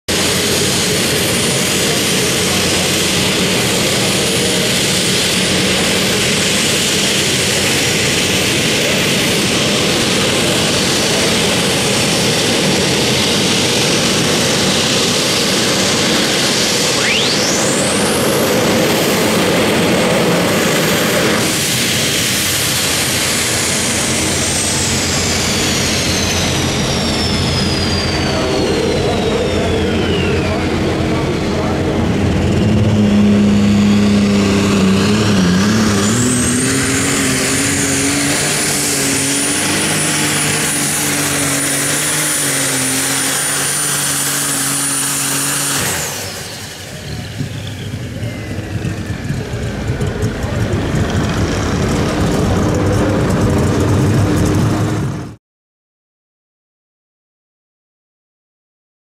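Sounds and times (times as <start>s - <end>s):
jet engine roar: 0.0s - 55.4s
high turbine whine: 0.1s - 55.4s.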